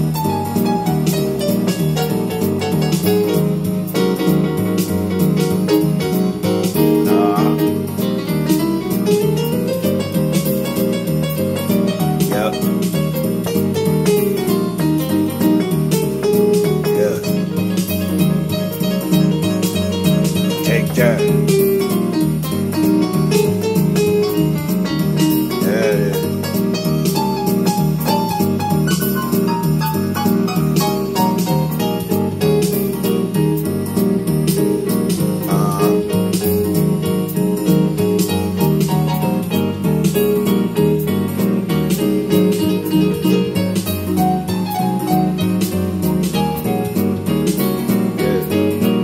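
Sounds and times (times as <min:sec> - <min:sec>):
digital piano chords and runs: 0:00.0 - 0:49.0.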